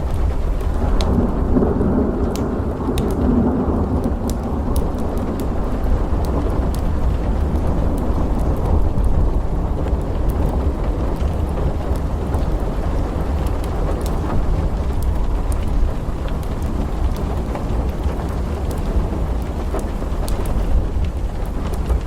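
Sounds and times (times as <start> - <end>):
faint crackles: 0.0 - 22.0
low rumble of thunder: 0.0 - 22.0
steady rain: 0.0 - 22.0.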